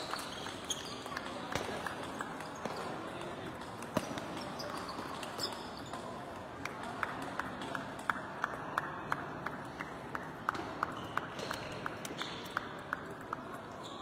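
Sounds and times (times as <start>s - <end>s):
sports hall background noise: 0.0s - 14.0s.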